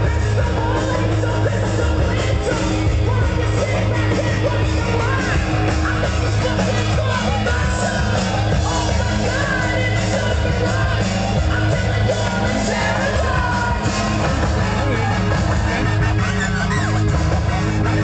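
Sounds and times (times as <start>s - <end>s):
bass: 0.0s - 18.0s
loud rock music with singing: 0.0s - 18.0s.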